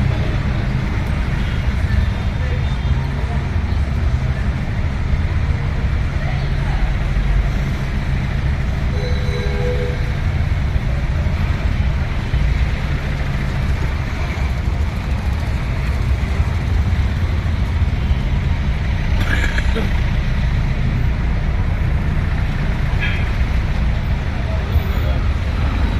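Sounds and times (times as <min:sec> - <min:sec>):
traffic rumble and road noise: 0:00.0 - 0:25.9.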